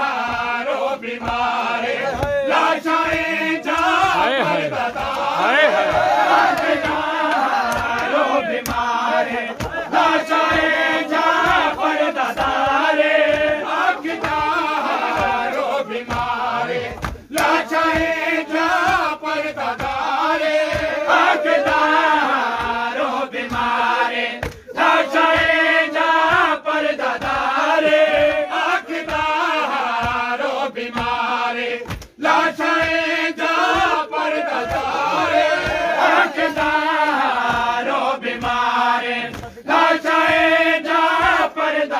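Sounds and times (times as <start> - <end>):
hands beating chests: 0.0 - 41.8
crowd of men singing along: 0.0 - 41.9
man chanting a lament: 1.6 - 26.6, 32.4 - 41.9.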